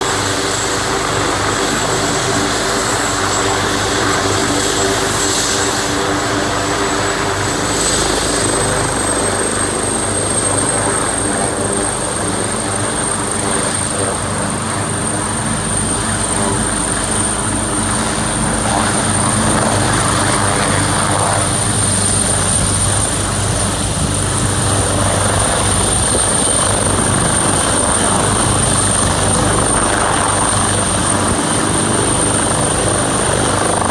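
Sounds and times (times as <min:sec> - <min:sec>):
helicopter rotor and engine: 0:00.0 - 0:33.9
high turbine whine: 0:00.0 - 0:33.9.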